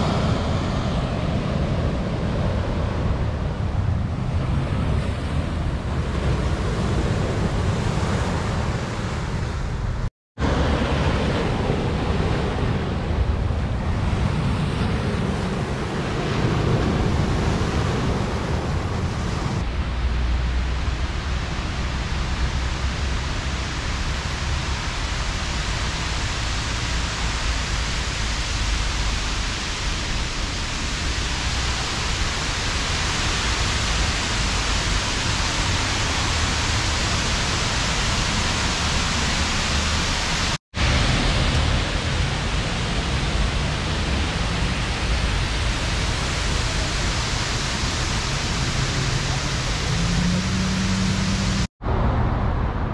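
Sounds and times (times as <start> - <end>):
waterfall rushing: 0.0 - 9.8, 10.4 - 51.7.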